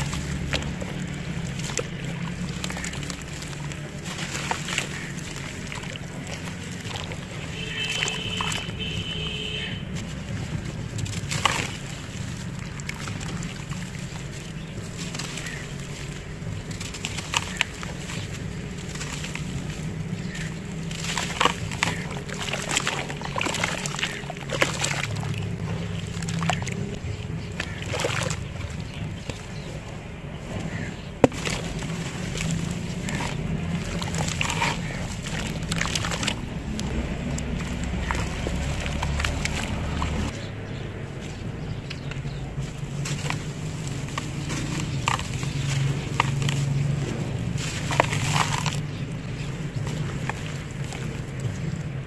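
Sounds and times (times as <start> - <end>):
water sloshing and splashing: 0.0 - 52.0.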